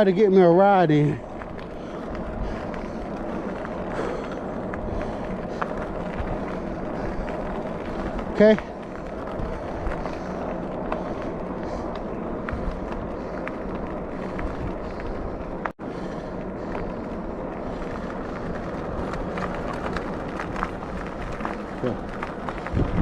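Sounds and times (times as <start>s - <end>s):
wind and road rush: 0.0s - 23.0s.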